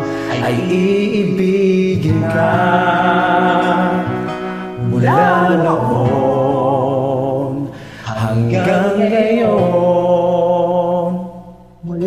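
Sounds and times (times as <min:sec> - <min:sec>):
karaoke backing track: 0:00.0 - 0:12.0
man singing with vibrato: 0:00.0 - 0:12.0.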